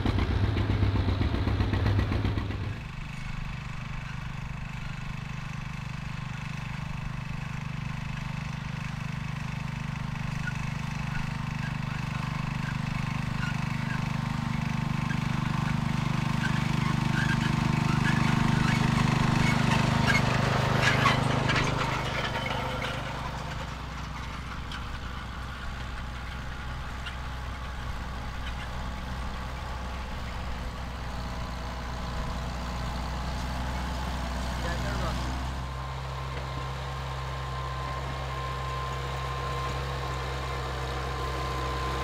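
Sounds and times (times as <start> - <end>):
tractor engine rattling: 0.0 - 42.0
tractor engines running: 0.0 - 42.0.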